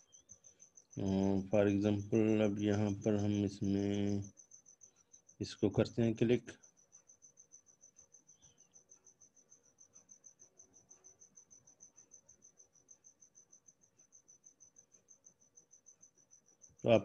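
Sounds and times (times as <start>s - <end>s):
faint high-pitched pulsing: 0.0s - 17.0s.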